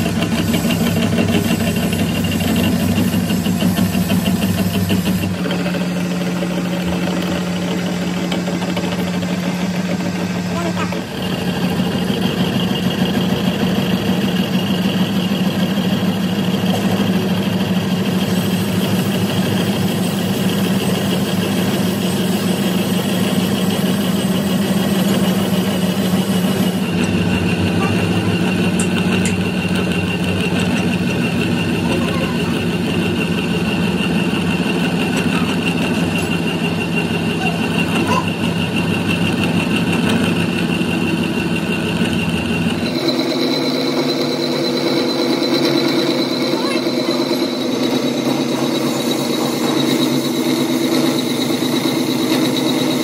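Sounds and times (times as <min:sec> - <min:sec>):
metal lathe humming and whining: 0:00.0 - 0:53.0.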